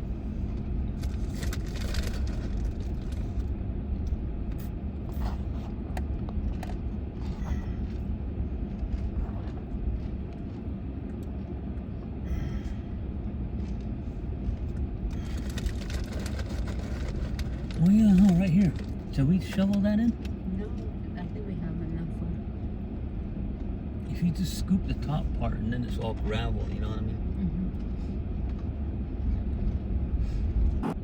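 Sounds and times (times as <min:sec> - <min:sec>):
vehicle idling rumble: 0:00.0 - 0:31.0.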